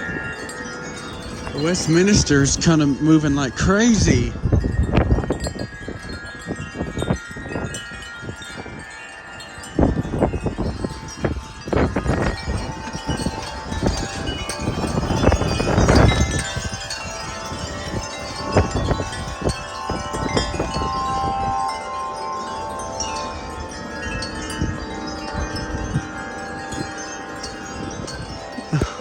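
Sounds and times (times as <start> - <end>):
metal wind chimes ringing: 0.0 - 29.0
wind buffeting microphone: 0.0 - 29.0.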